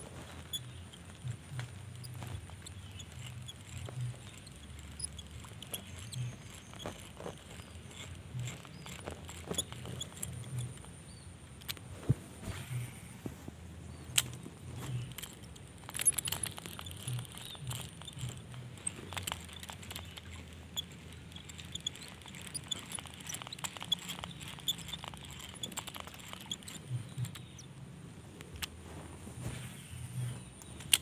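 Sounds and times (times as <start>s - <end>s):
fishing reel ticking: 0.0s - 11.8s, 14.0s - 27.8s, 29.8s - 31.0s.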